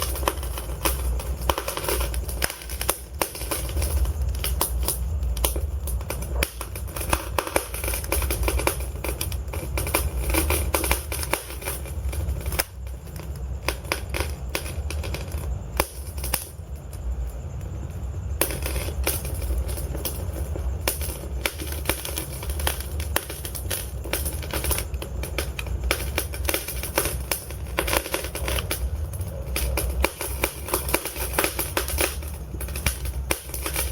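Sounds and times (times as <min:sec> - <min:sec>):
logs crackling in a fireplace: 0:00.0 - 0:33.9.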